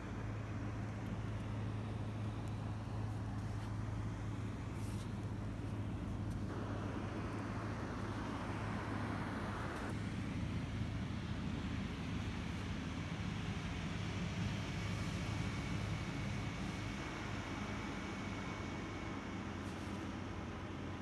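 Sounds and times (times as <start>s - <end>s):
low outdoor hum: 0.0s - 21.0s.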